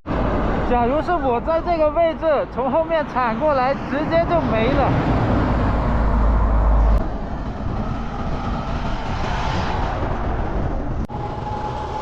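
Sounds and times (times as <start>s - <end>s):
strong wind buffeting microphone: 0.1s - 12.0s.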